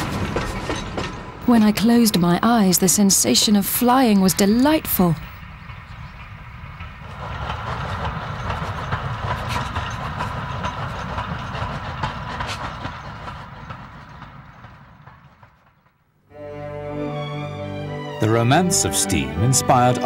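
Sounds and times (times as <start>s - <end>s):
wheels rumbling on rails: 0.0s - 16.1s.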